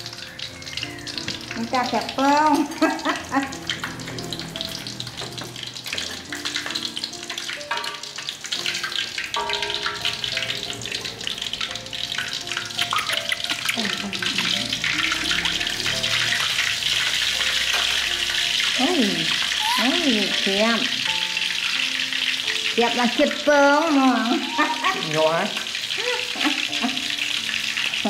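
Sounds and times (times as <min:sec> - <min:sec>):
background music with held notes: 0:00.0 - 0:28.0
food sizzling in a pan: 0:00.0 - 0:28.0.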